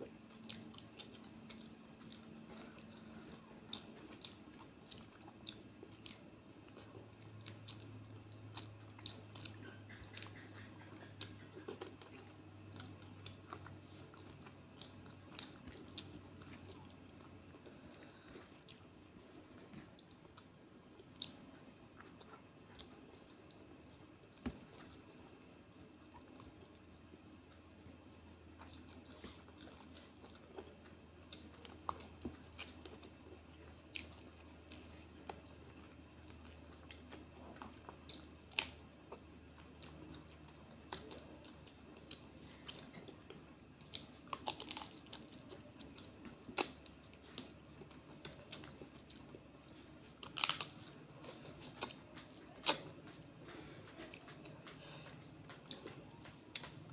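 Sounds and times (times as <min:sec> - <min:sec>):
person chewing and mouth smacking: 0:00.0 - 0:56.9.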